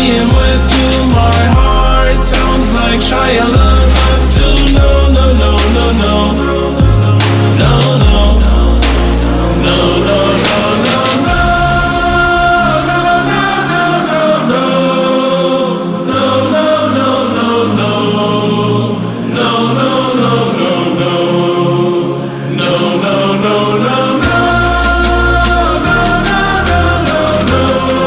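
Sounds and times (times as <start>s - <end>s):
choir-like voices: 0.0s - 28.0s
steady musical backing: 0.0s - 28.0s.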